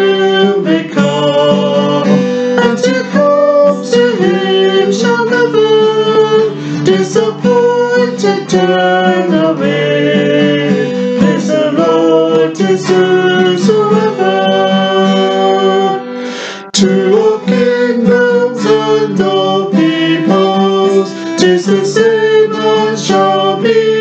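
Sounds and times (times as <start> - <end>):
man and woman singing a hymn: 0.0 - 24.0
strummed acoustic guitar: 0.0 - 24.0.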